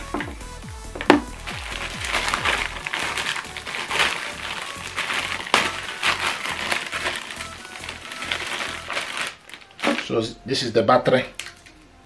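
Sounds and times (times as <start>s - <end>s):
sharp crack: 0.0s - 10.2s
plastic packet crinkling: 0.0s - 10.3s
background music: 0.0s - 12.0s.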